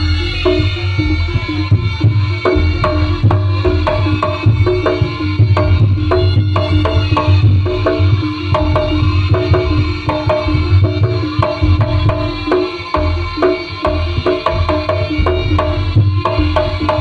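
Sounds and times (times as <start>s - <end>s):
gamelan music: 0.0s - 17.0s
hand drums beating: 0.0s - 17.0s
low drum thuds: 0.0s - 17.0s
metal percussion notes: 0.0s - 17.0s.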